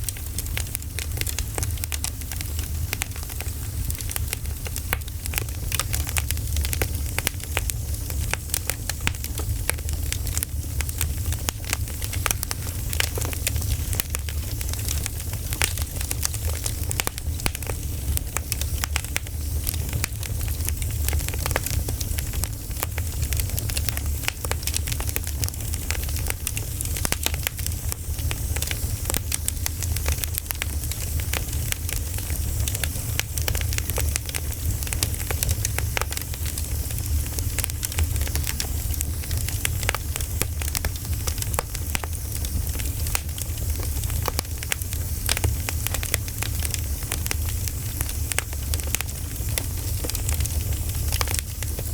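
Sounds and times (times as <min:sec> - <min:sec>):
bonfire crackling: 0:00.0 - 0:51.9.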